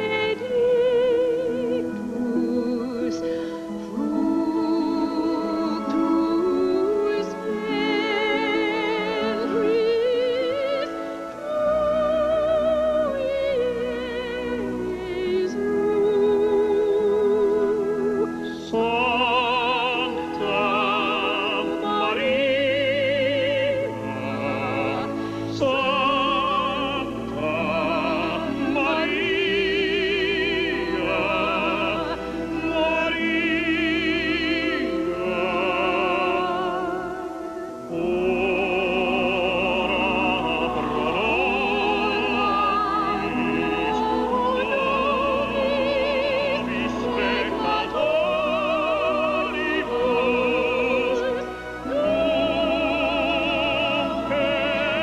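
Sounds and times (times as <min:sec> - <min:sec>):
operatic singing: 0:00.0 - 0:55.0.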